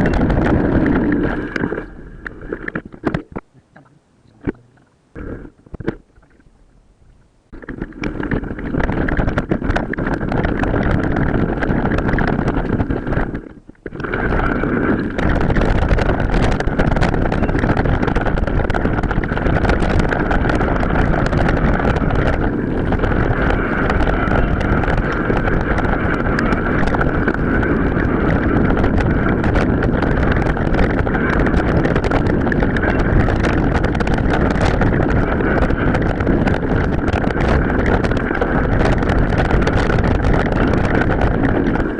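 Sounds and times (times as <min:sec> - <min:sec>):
bike rattling over rough ground: 0:00.0 - 0:03.4, 0:07.5 - 0:41.9
wind buffeting microphone: 0:00.0 - 0:03.4, 0:04.4 - 0:41.9.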